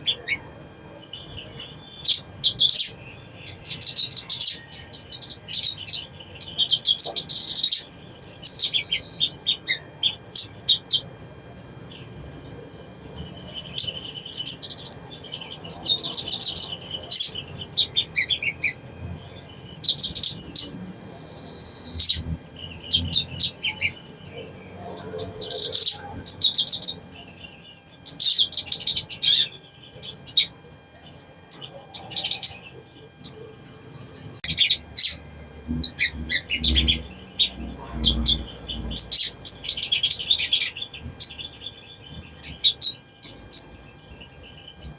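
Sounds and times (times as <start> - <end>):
bird chirping and twittering: 0.0 - 44.9.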